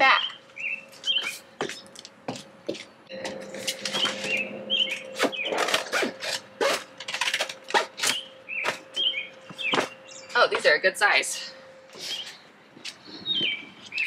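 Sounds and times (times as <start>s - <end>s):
birds chirping: 0.0s - 2.0s, 3.1s - 7.0s, 7.6s - 14.0s
faint steady hum: 0.0s - 14.0s.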